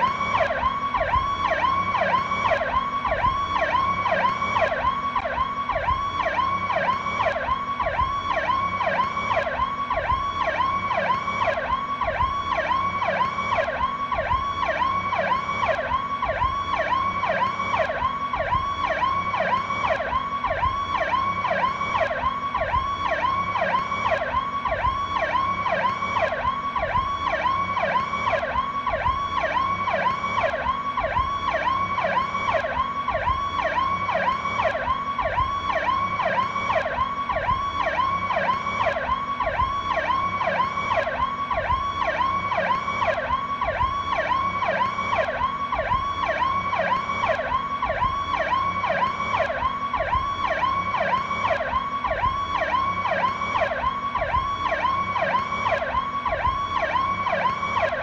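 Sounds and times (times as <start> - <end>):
police siren fast yelp: 0.0 - 58.0.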